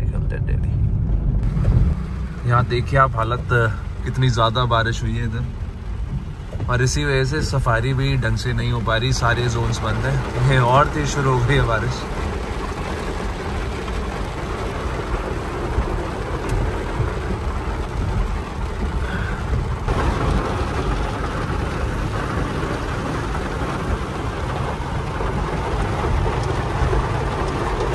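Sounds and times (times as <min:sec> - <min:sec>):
car engine and road noise: 0:00.0 - 0:27.9
rain falling on car: 0:00.8 - 0:27.9.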